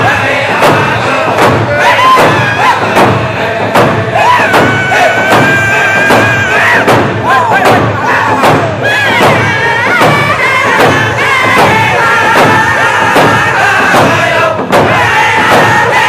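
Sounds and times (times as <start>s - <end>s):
group singing in high voices: 0.0s - 16.0s
hand drum beat: 0.0s - 16.0s.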